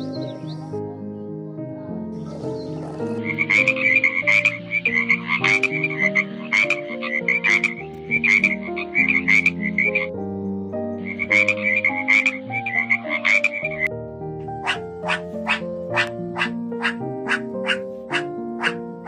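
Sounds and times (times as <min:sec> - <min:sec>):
frog croaking: 0:00.0 - 0:00.9, 0:02.1 - 0:13.9, 0:14.6 - 0:19.0.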